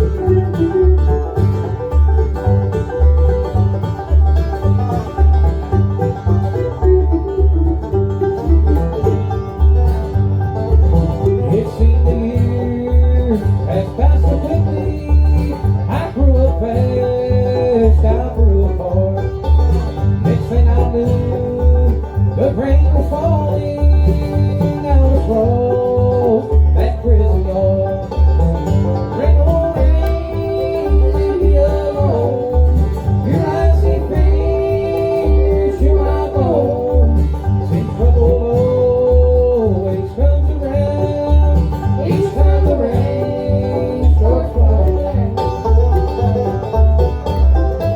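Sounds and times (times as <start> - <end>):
bluegrass band playing: 0.0 - 47.9.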